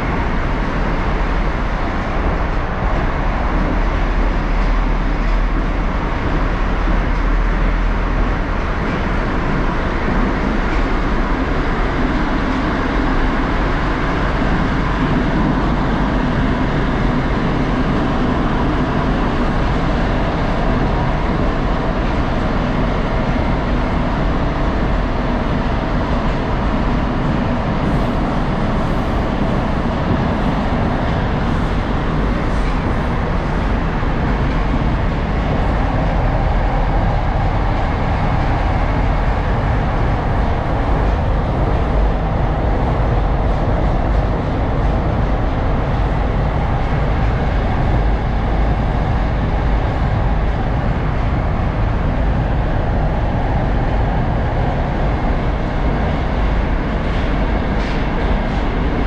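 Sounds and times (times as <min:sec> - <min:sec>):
metro train wheels on rails: 0:00.0 - 0:59.0.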